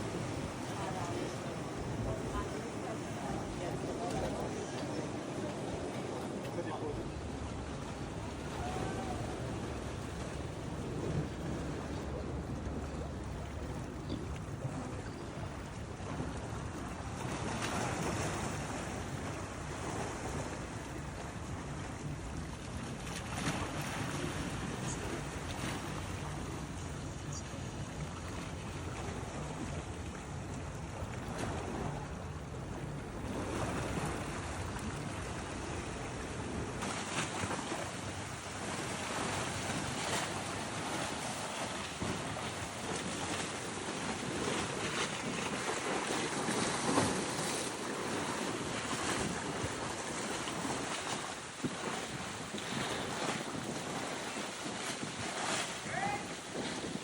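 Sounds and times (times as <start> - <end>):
sea waves washing in: 0.0 - 57.0
wind rumbling on microphone: 0.0 - 57.0.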